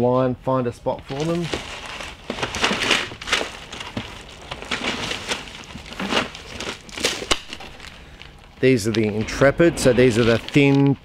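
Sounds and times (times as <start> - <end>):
plastic and cardboard crinkling: 1.0 - 11.0.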